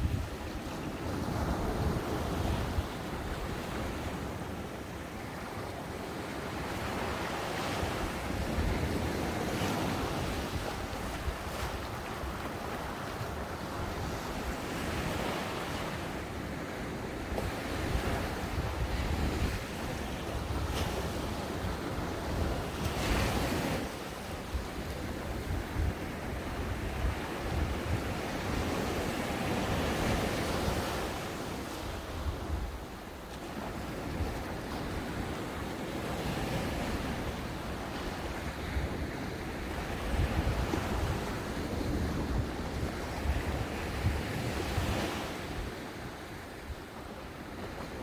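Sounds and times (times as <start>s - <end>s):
wind buffeting the microphone: 0.0s - 48.0s.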